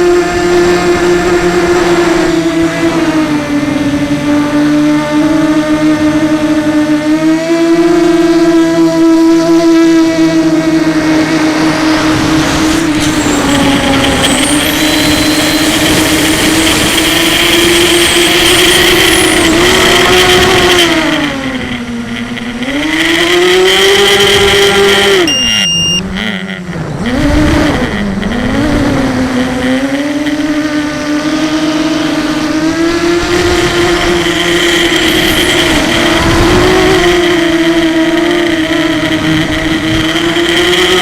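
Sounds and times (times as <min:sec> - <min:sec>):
quadcopter motors whining: 0:00.0 - 0:41.0.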